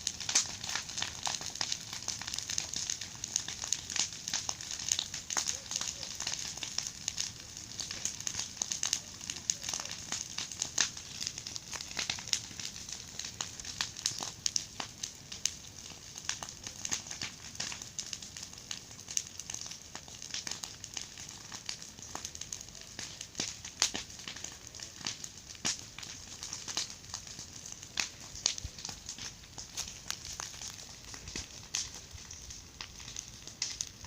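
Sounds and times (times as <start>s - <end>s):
bonfire wood crackling and popping: 0.0s - 34.0s.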